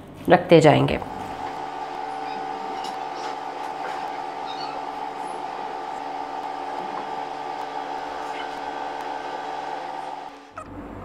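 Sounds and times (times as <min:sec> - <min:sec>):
steady hum of held tones: 0:00.6 - 0:11.0.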